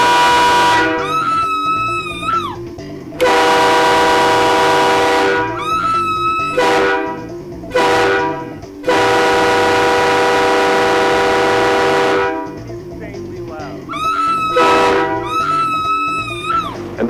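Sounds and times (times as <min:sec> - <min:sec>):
train horn blasts: 0:00.0 - 0:01.6, 0:03.2 - 0:12.6, 0:13.9 - 0:16.8.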